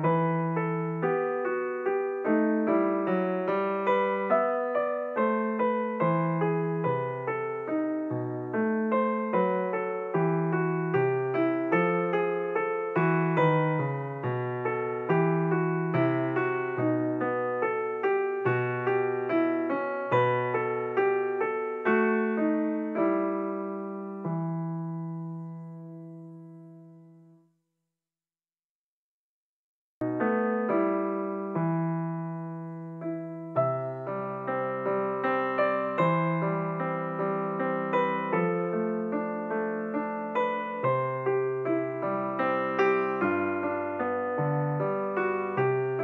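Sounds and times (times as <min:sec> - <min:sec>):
piano-like keyboard music: 0:00.0 - 0:27.4, 0:30.0 - 0:46.0.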